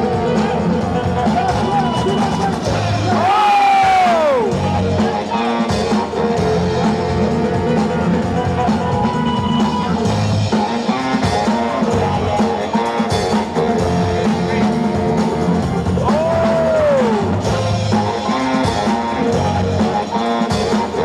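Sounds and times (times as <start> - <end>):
dance music with drums and guitar: 0.0 - 21.0.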